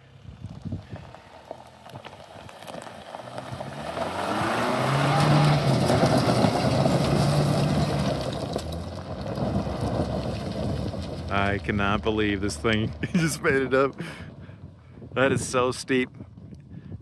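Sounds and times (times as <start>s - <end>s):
truck engine under load: 0.8s - 15.1s.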